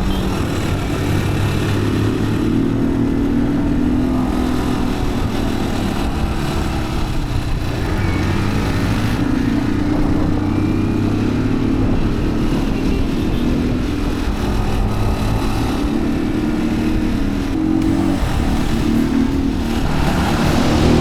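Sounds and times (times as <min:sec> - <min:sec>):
motorbike engine running: 0:00.0 - 0:21.0
wind and tyre noise: 0:00.0 - 0:21.0.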